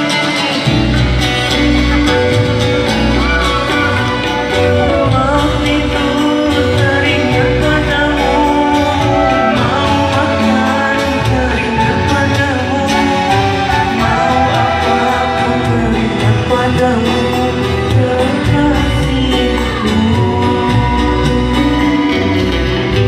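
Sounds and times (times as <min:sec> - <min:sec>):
live band music: 0:00.0 - 0:23.0
person singing: 0:02.1 - 0:23.0.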